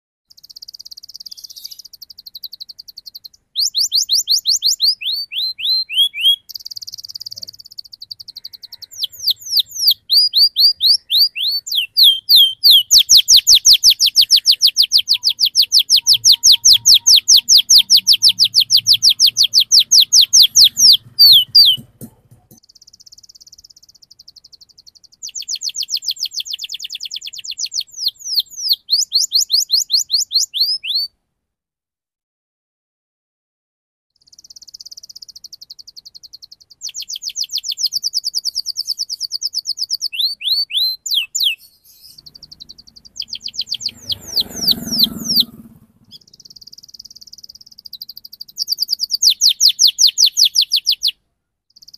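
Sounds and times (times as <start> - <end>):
canary singing trills: 0.3 - 31.2, 34.2 - 51.9.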